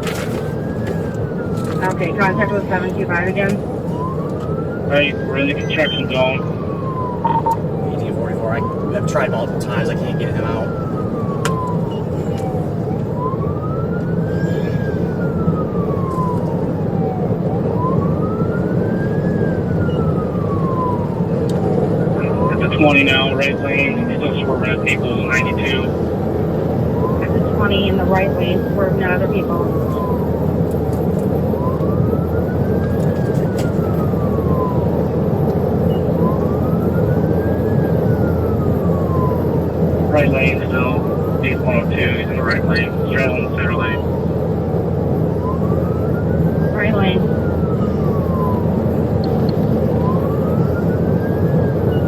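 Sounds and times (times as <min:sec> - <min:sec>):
car engine and road noise: 0:00.0 - 0:52.0
police siren wailing: 0:00.0 - 0:52.0.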